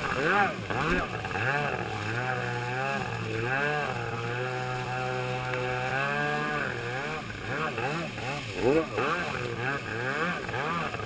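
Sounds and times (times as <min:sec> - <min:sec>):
jet ski engine revving: 0:00.0 - 0:11.0.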